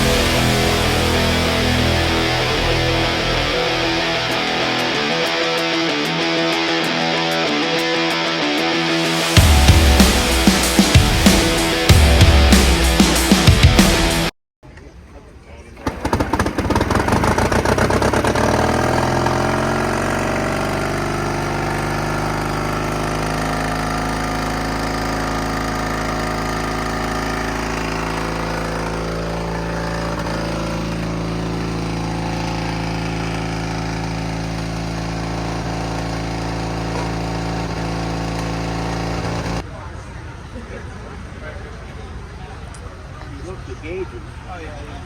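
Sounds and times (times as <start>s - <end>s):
truck engine idling: 0.0s - 6.6s, 9.0s - 14.3s, 15.2s - 45.0s.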